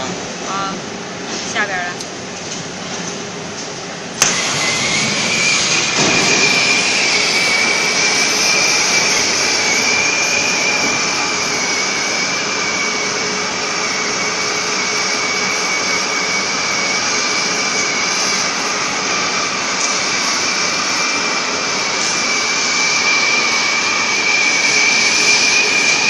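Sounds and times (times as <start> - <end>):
cutting torch hissing and whistling: 4.2 - 26.0.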